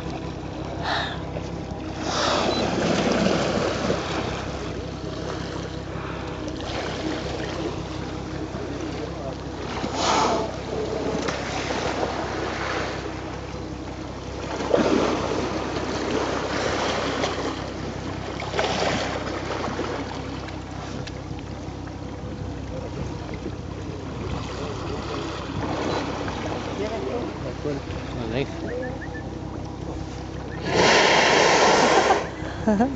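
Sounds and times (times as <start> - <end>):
water sloshing: 0.0 - 32.9.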